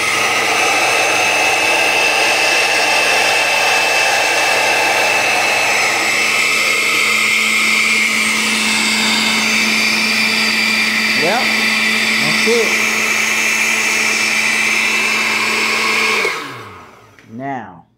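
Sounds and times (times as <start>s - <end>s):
blender motor running: 0.0s - 17.3s.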